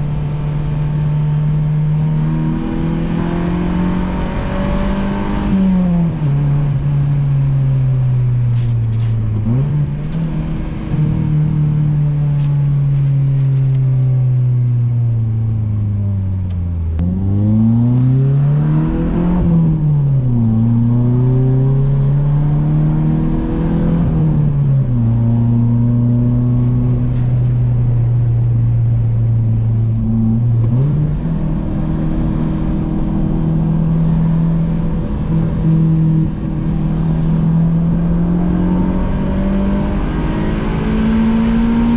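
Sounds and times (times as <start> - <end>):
car engine accelerating and cruising: 0.0 - 41.9.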